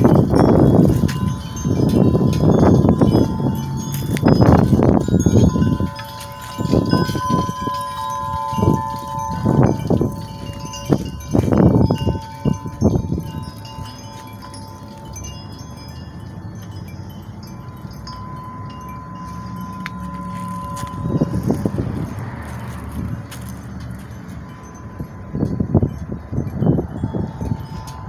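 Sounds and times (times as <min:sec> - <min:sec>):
wind chimes ringing: 0:00.0 - 0:28.0.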